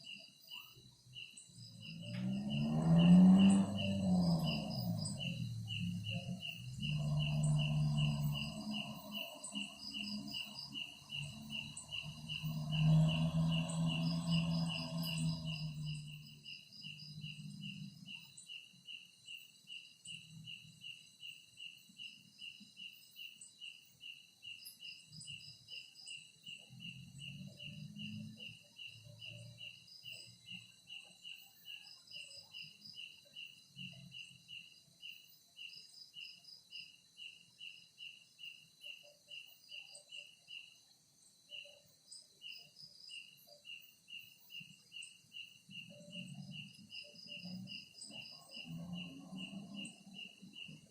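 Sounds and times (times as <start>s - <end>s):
cricket chirping: 0.0s - 50.9s
high insect trill: 0.0s - 50.9s.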